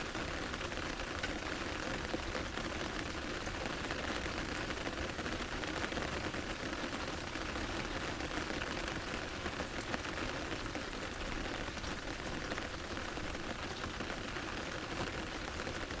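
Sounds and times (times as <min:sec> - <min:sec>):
rain pattering on umbrella: 0:00.0 - 0:16.0.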